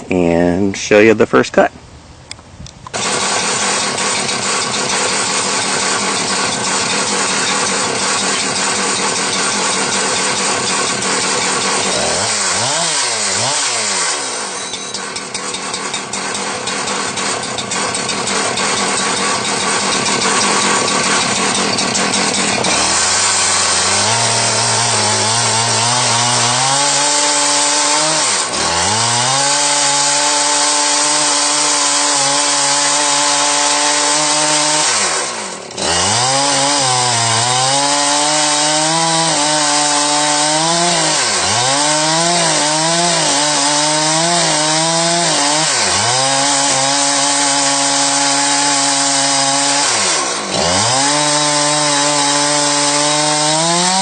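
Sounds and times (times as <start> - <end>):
chainsaw cutting log: 2.9 - 54.0.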